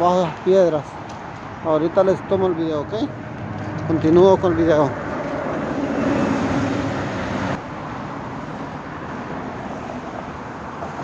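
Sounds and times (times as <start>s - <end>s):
road traffic noise: 0.0s - 11.0s
passing vehicle engine hum: 1.6s - 11.0s.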